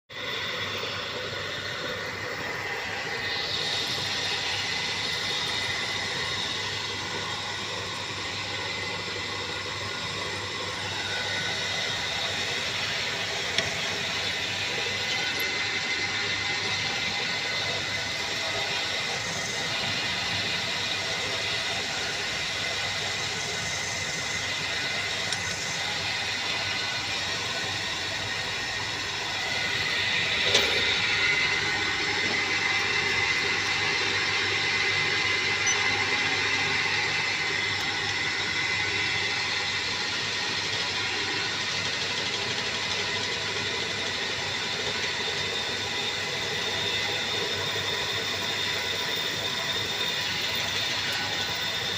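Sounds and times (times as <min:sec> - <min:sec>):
drilling machine whining: 0:00.1 - 0:51.9.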